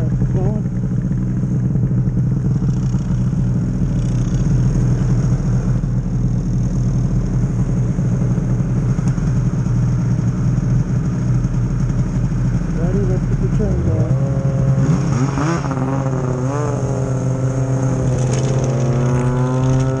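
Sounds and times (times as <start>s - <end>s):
snowmobile engine running: 0.0s - 20.0s.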